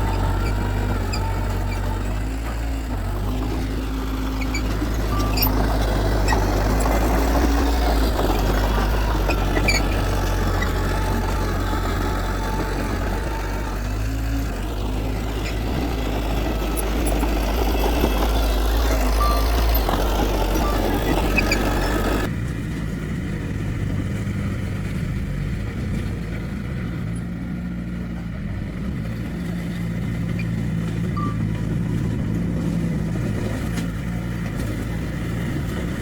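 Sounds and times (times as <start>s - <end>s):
heavy machinery diesel engine: 0.0s - 36.0s.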